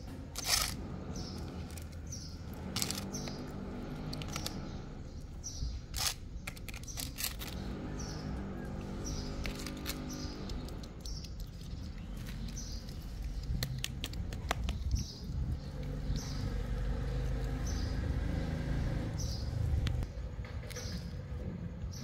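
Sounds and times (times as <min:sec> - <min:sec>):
small bird chirping: 0:00.4 - 0:21.2.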